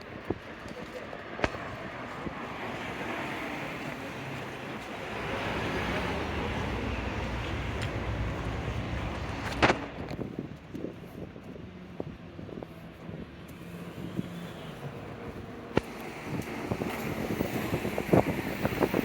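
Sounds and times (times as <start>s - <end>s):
car passing: 1.1s - 10.5s, 11.6s - 19.0s.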